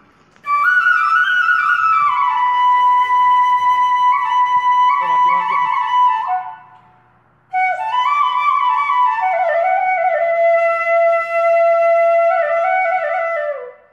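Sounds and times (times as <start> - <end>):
solo flute music: 0.4 - 6.8, 7.5 - 13.9.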